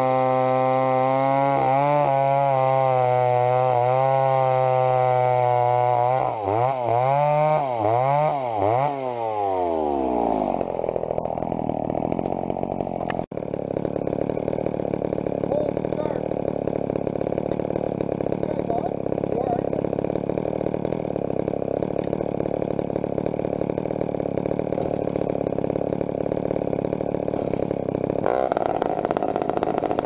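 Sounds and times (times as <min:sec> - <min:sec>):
chainsaw revving and idling: 0:00.0 - 0:30.0.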